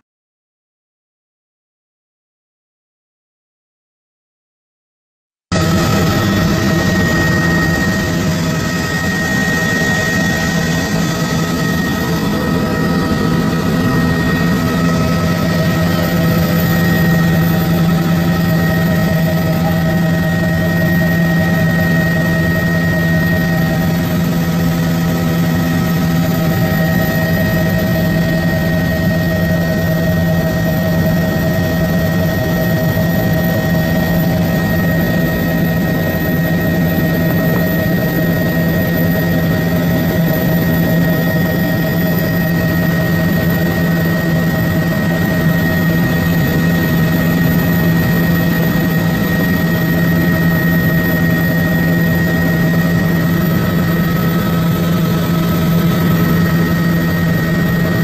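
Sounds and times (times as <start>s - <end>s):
helicopter engine and rotor drone: 5.5s - 58.0s
high whine: 5.5s - 58.0s.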